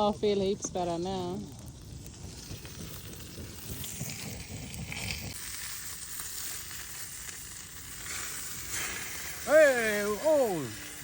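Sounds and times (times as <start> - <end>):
campfire hissing and crackling: 0.0 - 11.0.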